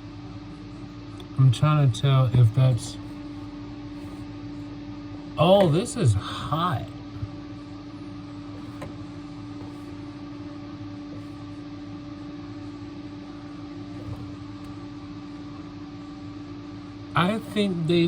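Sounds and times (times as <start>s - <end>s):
refrigerator humming: 0.0s - 18.0s.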